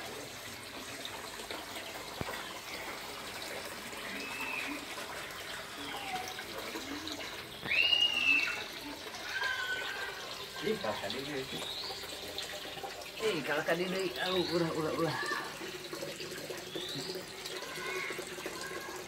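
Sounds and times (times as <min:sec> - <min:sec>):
water running and trickling: 0:00.0 - 0:19.0.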